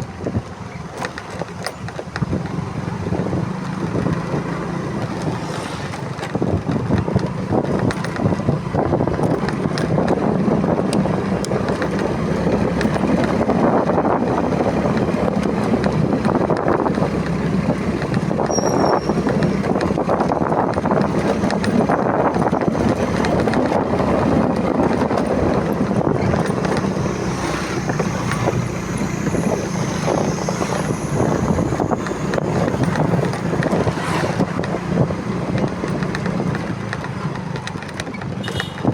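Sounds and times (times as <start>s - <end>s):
wind on microphone: 0.0s - 0.9s, 2.0s - 38.9s
motorcycle engine running: 0.0s - 38.9s.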